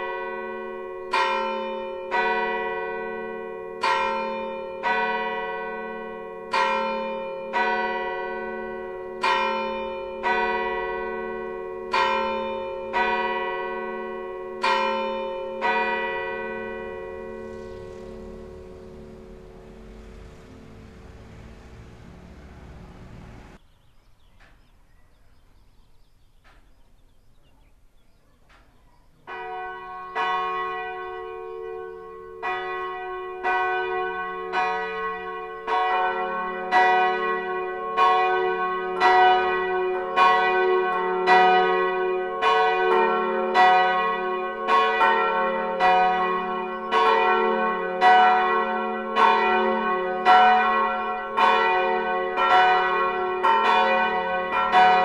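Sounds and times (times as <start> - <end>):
church bells ringing: 0.0 - 23.6, 29.2 - 55.0.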